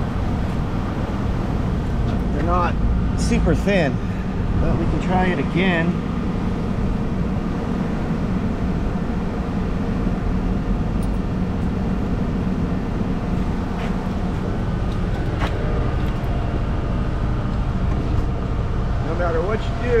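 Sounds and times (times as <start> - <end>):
machine engine running under load: 0.0 - 20.0.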